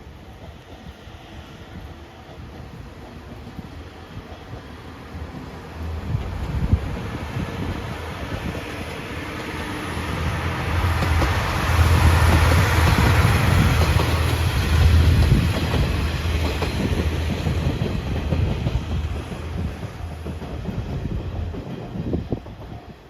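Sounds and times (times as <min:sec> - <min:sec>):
train deep rumble: 0:00.0 - 0:23.0
train wheels clattering over rail joints: 0:01.6 - 0:23.0.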